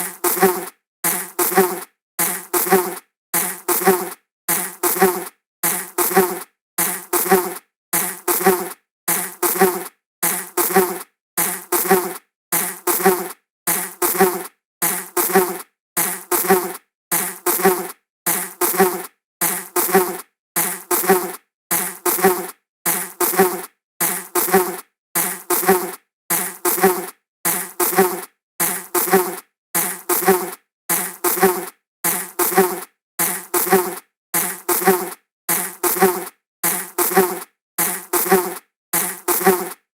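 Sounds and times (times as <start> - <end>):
flying insect buzzing: 0.0 - 39.8.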